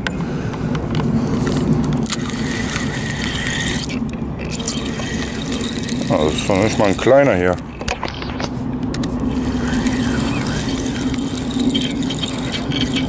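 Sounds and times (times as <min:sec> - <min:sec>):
fishing reel gears whirring: 0:00.0 - 0:07.8, 0:08.4 - 0:13.0.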